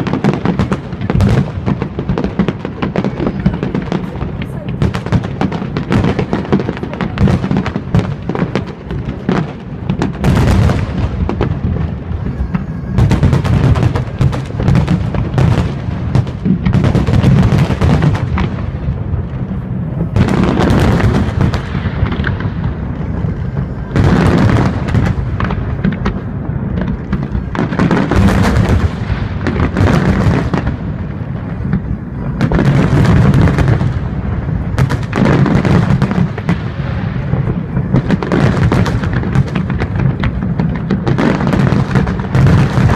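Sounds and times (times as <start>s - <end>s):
fireworks crackling: 0.0s - 42.9s.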